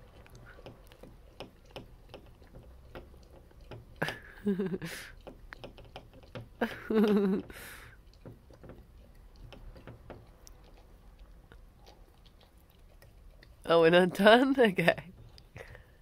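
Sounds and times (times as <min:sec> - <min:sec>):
dog lapping milk: 0:00.0 - 0:14.0.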